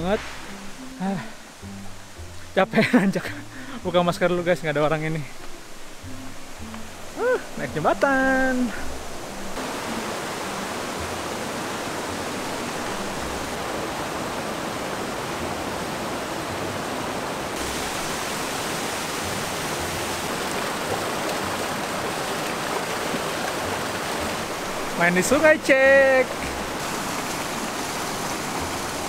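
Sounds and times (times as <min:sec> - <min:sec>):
stream rushing over boulders: 0:00.0 - 0:29.0.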